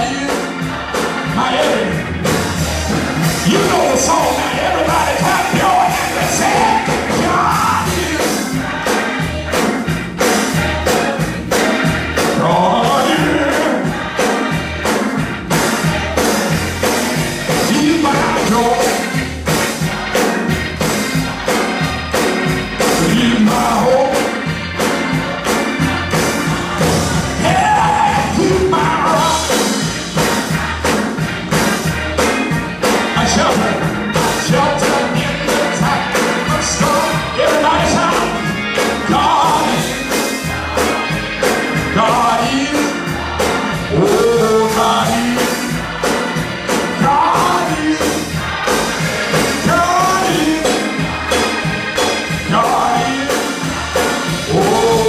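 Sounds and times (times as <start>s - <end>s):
drums: 0.0s - 55.0s
gospel choir singing: 0.0s - 55.0s
keyboard: 0.0s - 55.0s.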